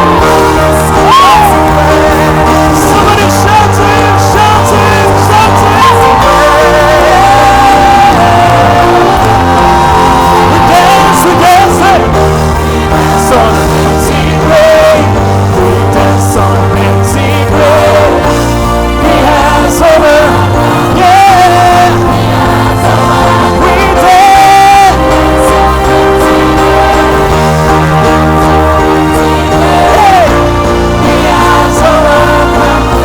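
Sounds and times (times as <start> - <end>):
band playing worship song: 0.0 - 33.0.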